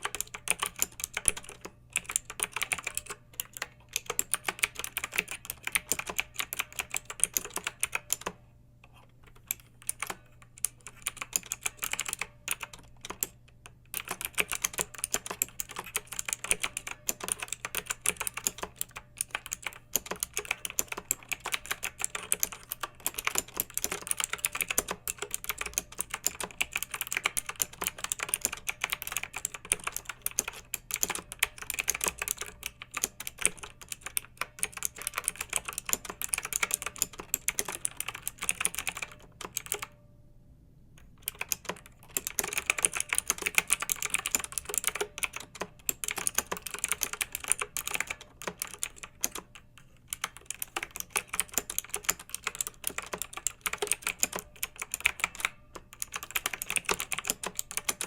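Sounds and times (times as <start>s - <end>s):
mechanical keyboard typing: 0.0s - 40.0s, 41.0s - 58.0s.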